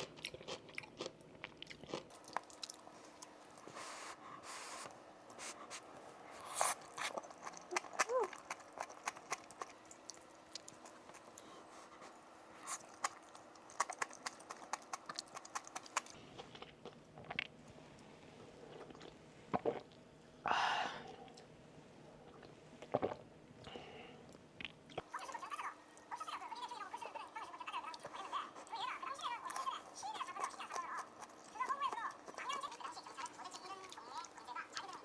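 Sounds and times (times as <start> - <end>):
person chewing and crunching food: 0.0 - 17.8, 18.6 - 20.1, 22.3 - 25.1, 27.9 - 35.0.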